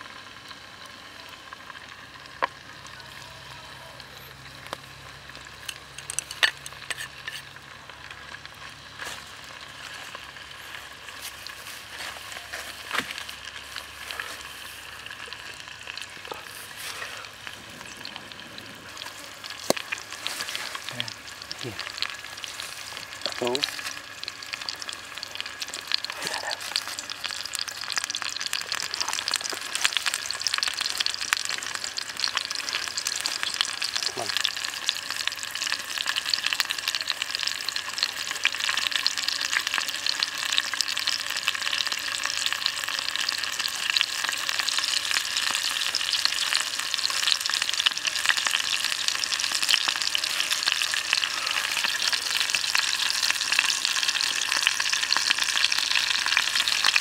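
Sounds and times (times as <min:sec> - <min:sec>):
chicken frying in oil: 0:00.0 - 0:57.0.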